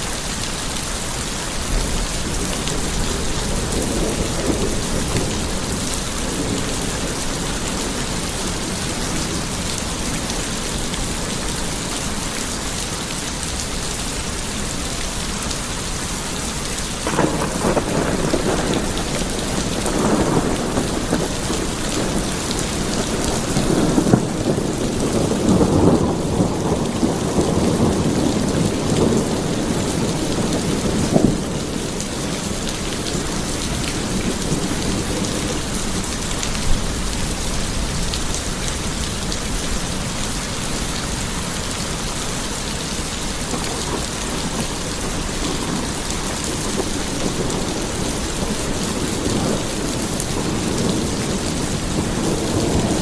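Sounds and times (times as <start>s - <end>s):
steady rain: 0.0s - 53.0s
thunder rumble: 1.6s - 12.7s, 17.0s - 53.0s.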